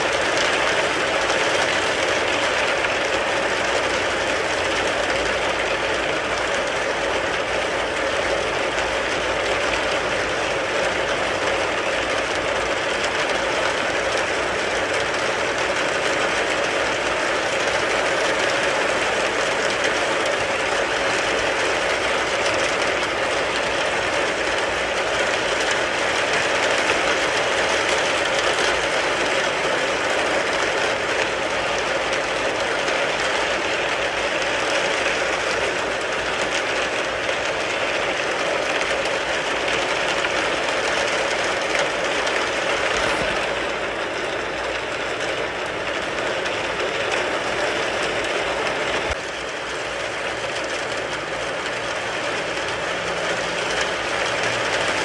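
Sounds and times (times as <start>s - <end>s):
rain pattering on a car: 0.0s - 43.0s, 44.3s - 55.0s.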